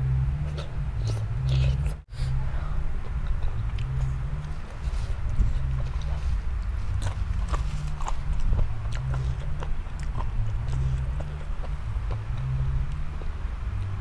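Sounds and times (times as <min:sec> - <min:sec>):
crunchy wet chewing: 0:00.4 - 0:02.0, 0:03.0 - 0:14.0.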